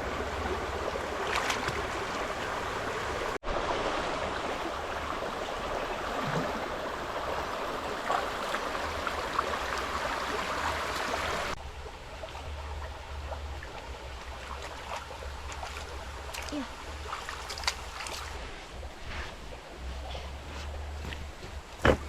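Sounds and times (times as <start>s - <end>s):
stream rushing water: 0.0s - 22.0s.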